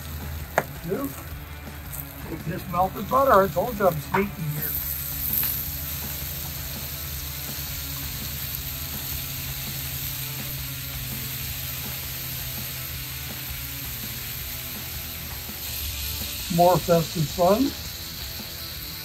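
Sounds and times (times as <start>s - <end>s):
background music: 0.0s - 19.0s
vegetables sizzling in oil: 0.0s - 19.0s.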